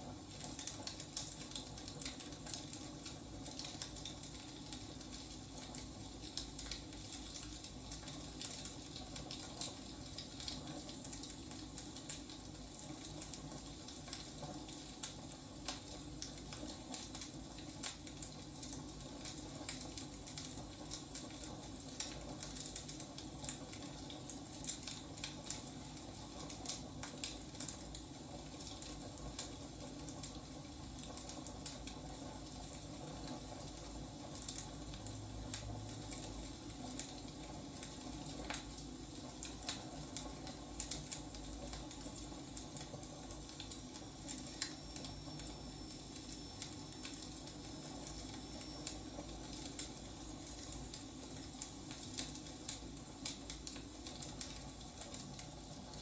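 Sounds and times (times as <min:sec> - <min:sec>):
logs crackling and popping: 0:00.1 - 0:56.0.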